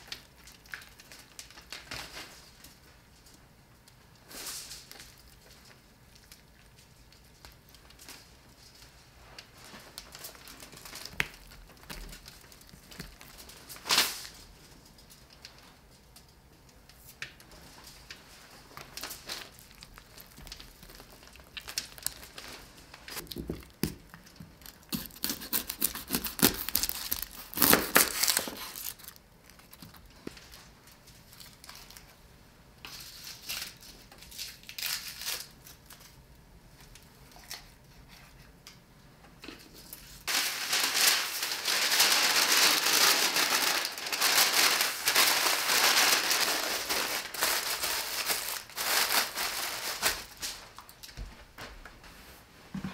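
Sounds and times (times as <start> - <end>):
baking paper crinkling: 0.0 - 32.2, 32.8 - 38.6, 39.6 - 51.5.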